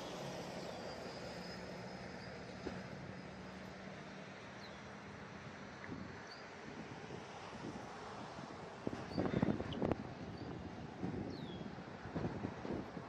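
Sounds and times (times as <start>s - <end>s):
heavy vehicle engine droning: 0.0s - 13.0s.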